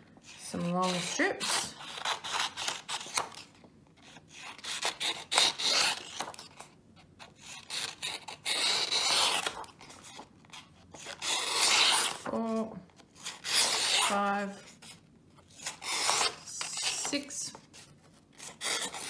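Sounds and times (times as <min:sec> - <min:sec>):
scissors cutting paper: 0:00.2 - 0:19.0.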